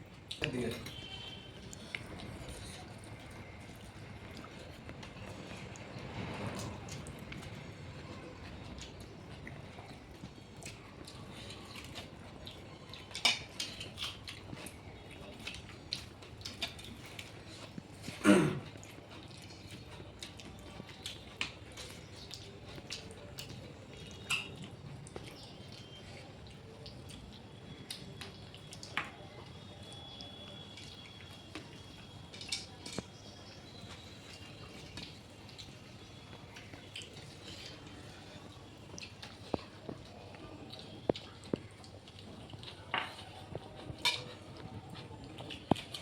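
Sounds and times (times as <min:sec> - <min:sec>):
wet chewing and mouth clicks: 0:00.0 - 0:46.0.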